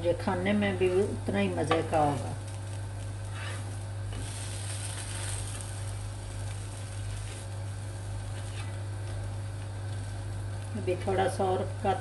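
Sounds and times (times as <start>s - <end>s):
food sizzling in a pan: 1.0s - 12.0s.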